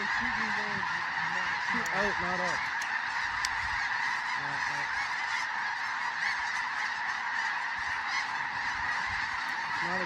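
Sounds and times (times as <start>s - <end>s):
flock of geese calling: 0.0s - 10.0s.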